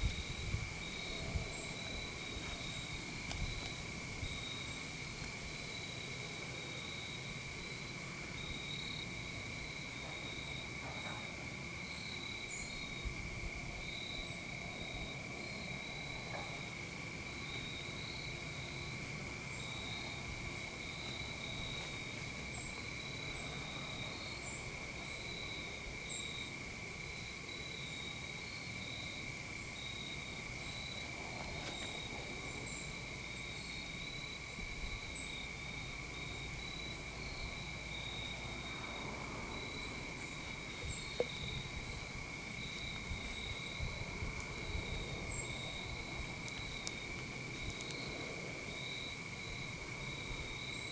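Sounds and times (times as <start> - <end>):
insects droning: 0.0 - 50.9
pulsing insect trill: 0.0 - 50.9.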